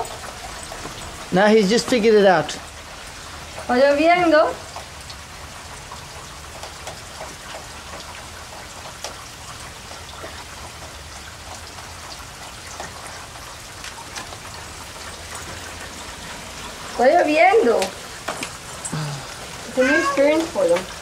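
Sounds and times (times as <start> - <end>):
rain on wet paving: 0.0 - 21.0.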